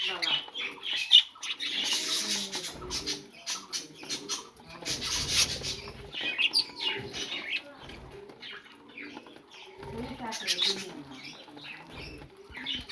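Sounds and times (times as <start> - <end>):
budgerigars chirping: 0.0 - 12.9
wings flapping: 1.5 - 12.9.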